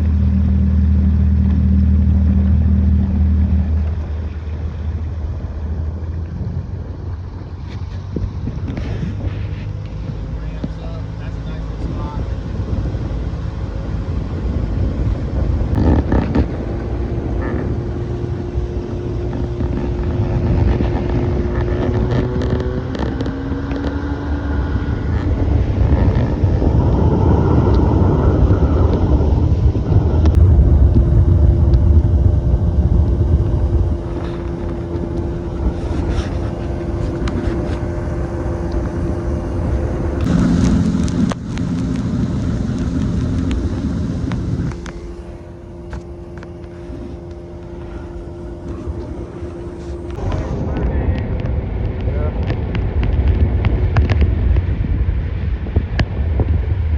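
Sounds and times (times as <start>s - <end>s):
boat motor droning: 0.0s - 56.9s.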